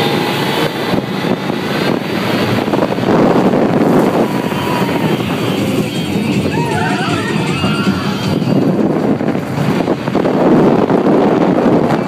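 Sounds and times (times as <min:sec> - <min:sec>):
roller coaster rumble and rattle: 0:00.0 - 0:12.0
wind buffeting microphone: 0:00.0 - 0:12.0.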